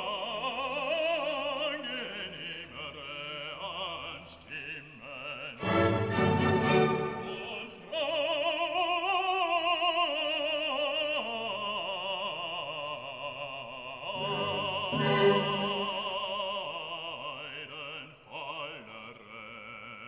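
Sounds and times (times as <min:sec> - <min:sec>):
operatic singing with vibrato: 0:00.0 - 0:19.4.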